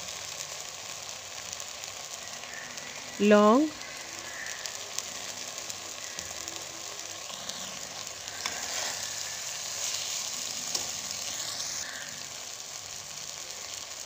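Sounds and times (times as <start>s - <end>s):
rice and spices sizzling: 0.0s - 14.0s.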